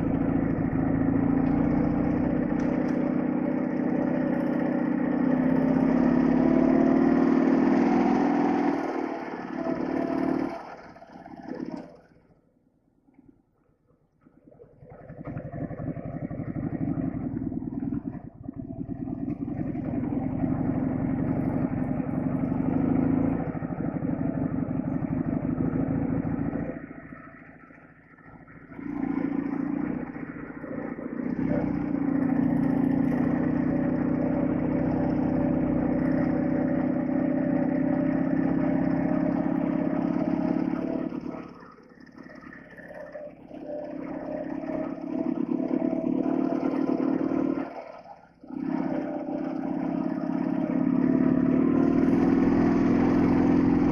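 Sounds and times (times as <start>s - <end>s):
motorcycle engine running: 0.0s - 12.3s, 14.9s - 53.9s.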